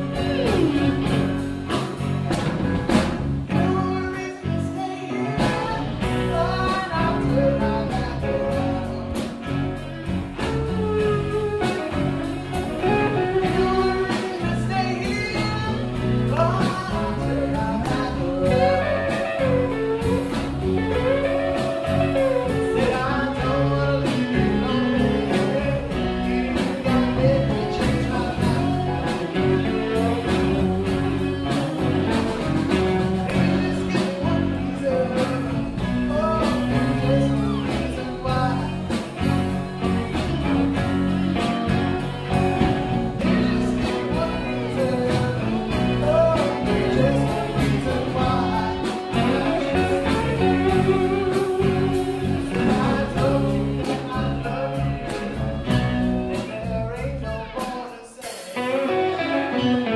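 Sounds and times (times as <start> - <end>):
person singing: 0.0 - 2.2, 2.9 - 59.9
blues instrumental backing: 0.0 - 59.9.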